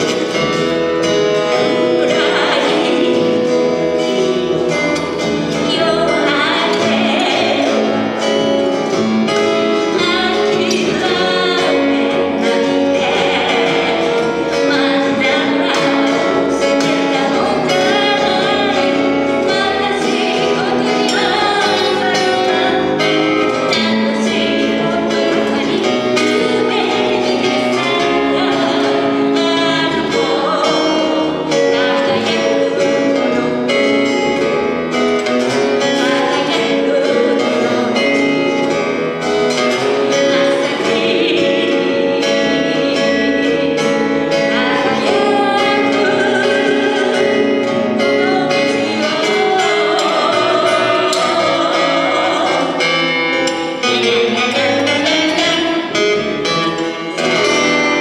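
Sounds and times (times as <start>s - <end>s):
acoustic guitars: 0.0s - 58.0s
double bass: 0.0s - 58.0s
woman singing: 0.0s - 58.0s.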